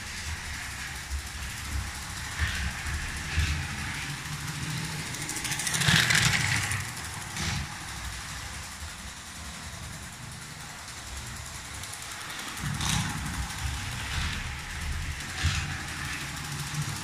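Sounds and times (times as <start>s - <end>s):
toy train motor whirring: 0.0s - 17.0s
wheels rattling over rails: 0.0s - 17.0s.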